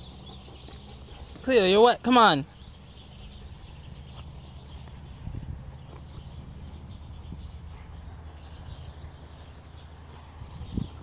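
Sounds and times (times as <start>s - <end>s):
dogs scuffling on grass: 0.0s - 11.0s.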